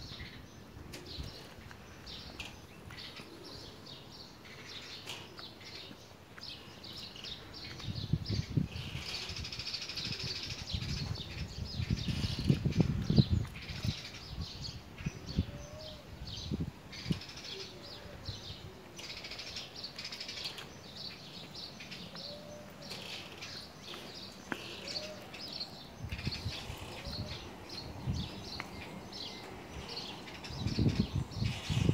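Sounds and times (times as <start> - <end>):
low curved bird calls: 0.0 - 31.9
small birds chirping: 0.0 - 31.9.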